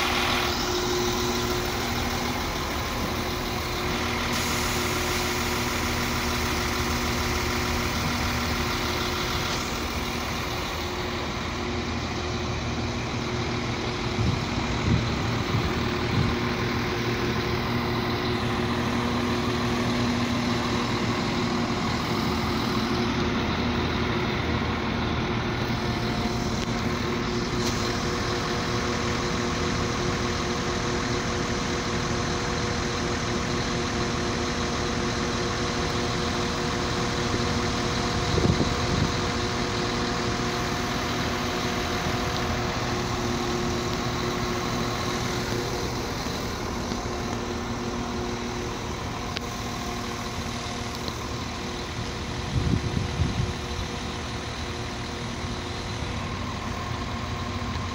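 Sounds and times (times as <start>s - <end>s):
train diesel engine idling: 0.0s - 57.9s.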